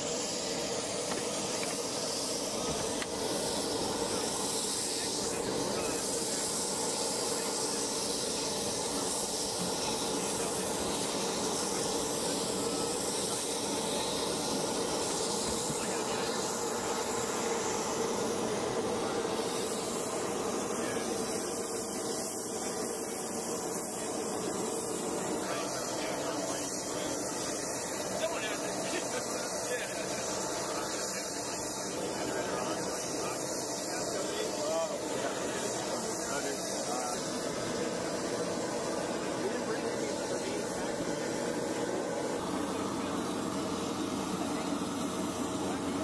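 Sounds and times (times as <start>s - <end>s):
running machinery hiss: 0.0s - 46.0s.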